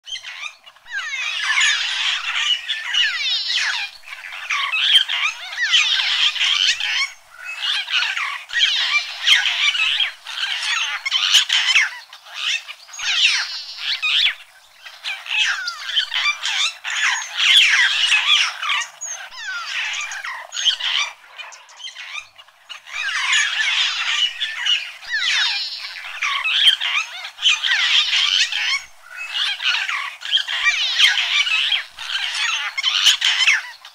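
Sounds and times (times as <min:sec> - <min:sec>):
chorus of chattering animal calls: 0:00.0 - 0:33.9.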